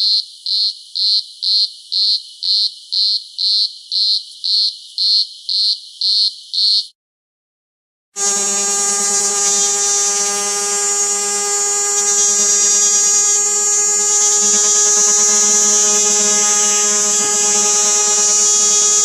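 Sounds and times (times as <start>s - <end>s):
cicada buzzing: 0.0s - 6.9s, 8.2s - 19.0s.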